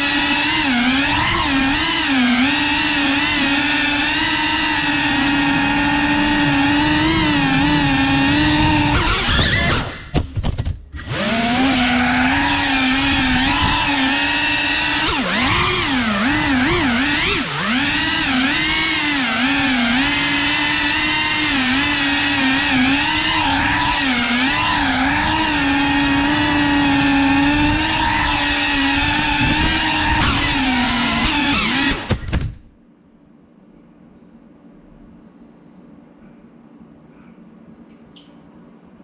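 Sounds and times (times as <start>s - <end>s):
quadcopter motors whining: 0.0s - 10.1s, 11.0s - 32.6s.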